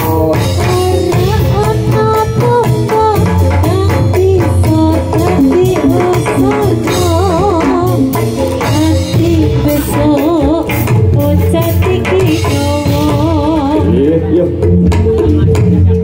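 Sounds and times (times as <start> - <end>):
steady drumming: 0.0 - 16.0
wavering melody with vibrato: 0.0 - 16.0.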